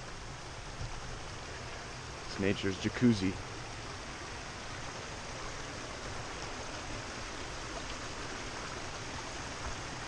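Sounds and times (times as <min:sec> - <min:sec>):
creek rushing over rocks: 0:00.0 - 0:10.0
low uneven rumble: 0:00.0 - 0:10.0.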